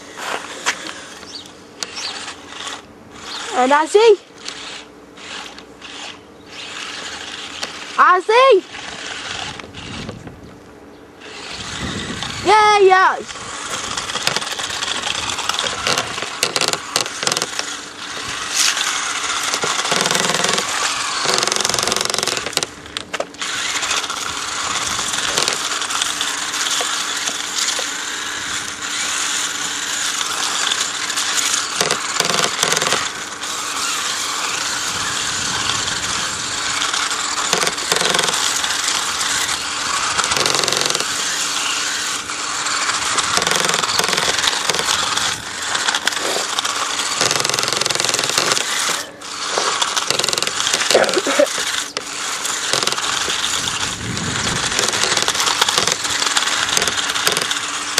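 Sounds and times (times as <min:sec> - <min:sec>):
remote-control cars rattling: 0:00.1 - 0:10.2, 0:11.2 - 0:57.9.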